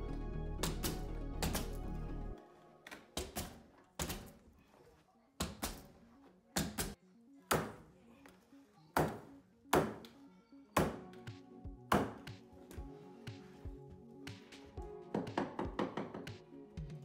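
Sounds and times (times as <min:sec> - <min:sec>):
faint music: 0:00.0 - 0:17.0.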